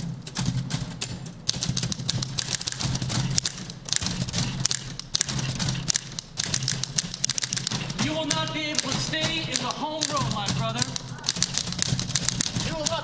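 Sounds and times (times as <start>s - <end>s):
typewriter keys clattering: 0.0s - 13.0s.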